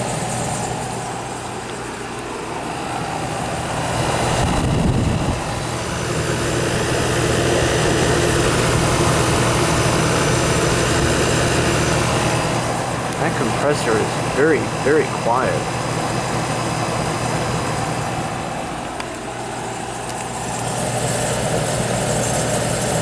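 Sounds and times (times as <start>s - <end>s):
dehumidifier fan blowing: 0.0s - 23.0s
low compressor hum: 0.0s - 23.0s.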